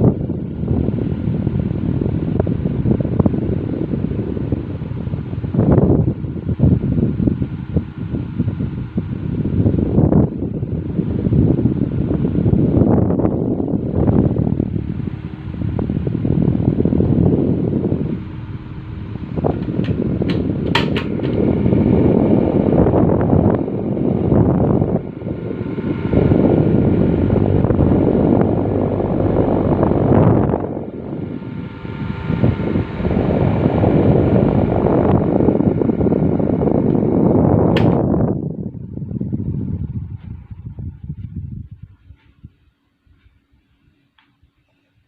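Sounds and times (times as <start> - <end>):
electric fan airflow rushing: 0.0 - 45.0
faint motor whine: 0.0 - 45.0.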